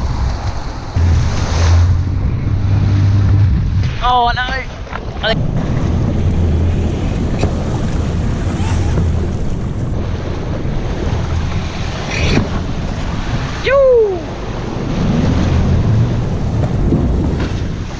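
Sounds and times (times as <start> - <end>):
surf washing: 0.0 - 17.9
wind buffeting microphone: 0.0 - 17.9.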